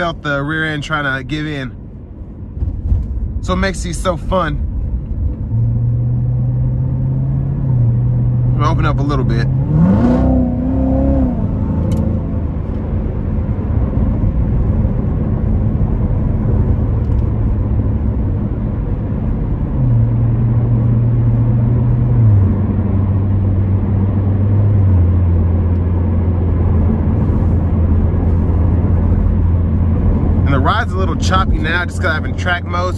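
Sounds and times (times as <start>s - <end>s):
car engine drone from cabin: 0.0s - 32.9s
road noise: 0.0s - 32.9s.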